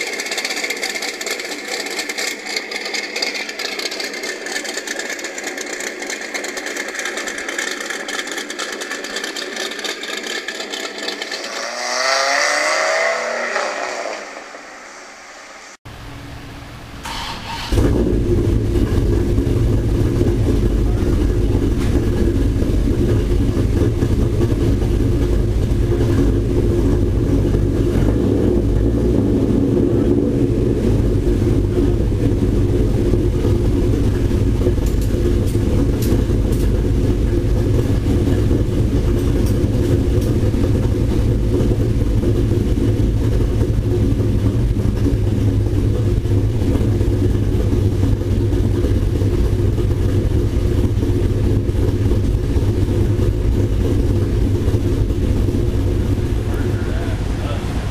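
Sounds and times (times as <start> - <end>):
engine idling: 0.0 - 12.8, 14.2 - 57.9.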